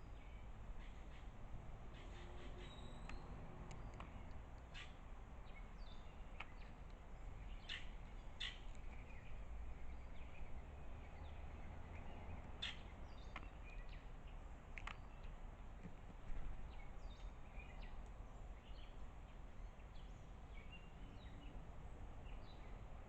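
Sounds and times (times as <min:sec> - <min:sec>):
birds chirping: 0:00.0 - 0:23.0
low background rumble: 0:00.0 - 0:23.0.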